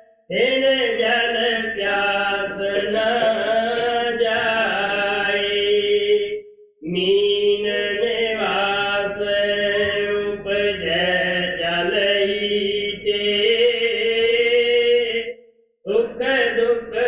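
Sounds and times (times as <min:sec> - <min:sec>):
chanting a hymn: 0:00.0 - 0:17.0.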